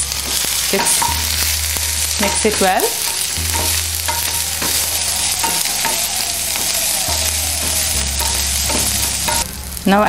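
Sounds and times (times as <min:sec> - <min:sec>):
aromatics sizzling in oil: 0:00.0 - 0:10.0.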